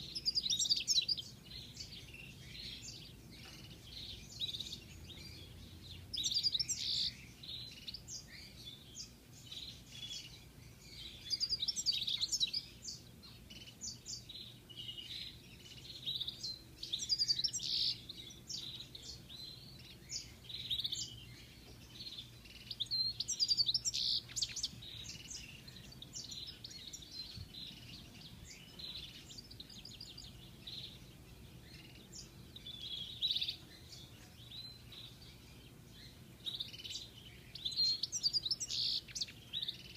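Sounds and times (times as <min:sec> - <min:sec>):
finch singing: 0:00.0 - 0:39.9.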